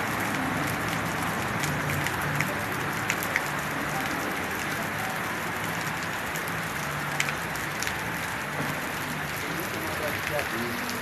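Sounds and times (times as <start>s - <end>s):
heavy rain pouring: 0.0s - 11.0s
rain drop ticks: 0.0s - 11.0s.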